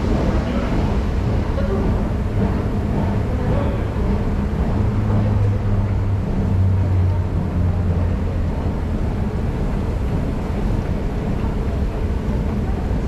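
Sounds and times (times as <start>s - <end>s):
escalator rumbling and humming: 0.0s - 13.0s.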